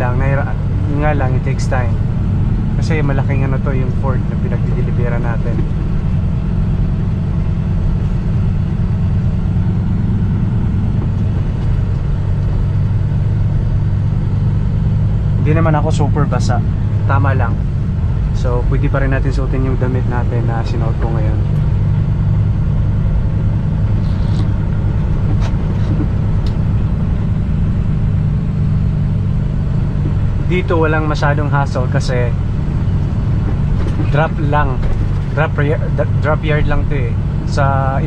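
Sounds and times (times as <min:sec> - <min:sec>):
truck diesel engine idling: 0:00.0 - 0:38.0.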